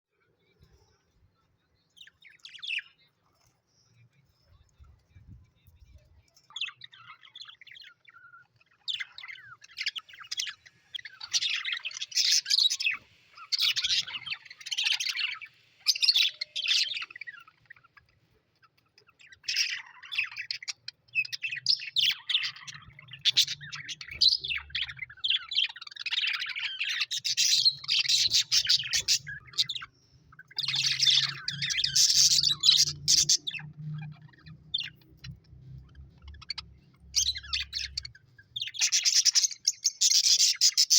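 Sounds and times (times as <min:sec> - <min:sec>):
birds chirping: 0:00.1 - 0:40.9.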